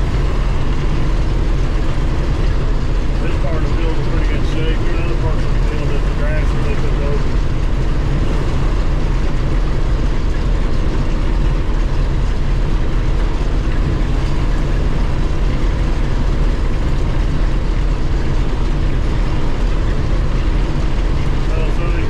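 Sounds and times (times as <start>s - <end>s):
combine harvester droning: 0.0s - 22.0s.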